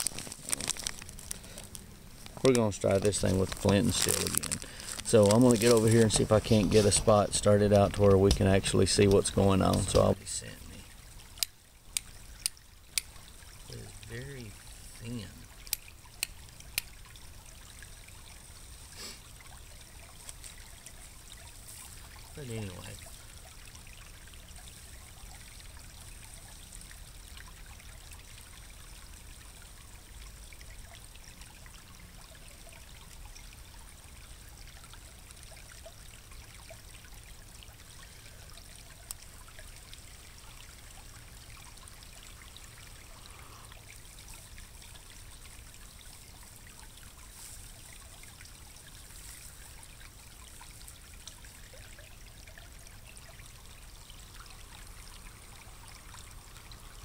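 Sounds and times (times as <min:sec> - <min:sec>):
creek trickling: 0:00.0 - 0:57.0.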